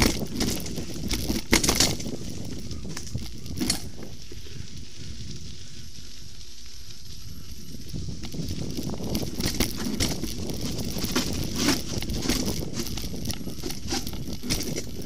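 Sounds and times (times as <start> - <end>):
bike rattling over bumps: 0.0 - 15.0
tyres rolling on dirt: 0.0 - 15.0.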